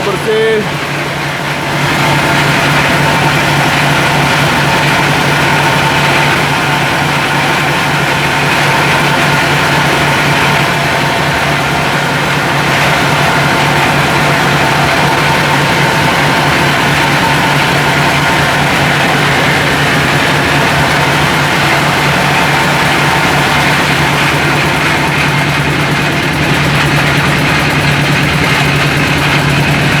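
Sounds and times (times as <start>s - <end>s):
grinding machine hum: 0.0s - 30.0s
thin steady machine whine: 0.0s - 30.0s.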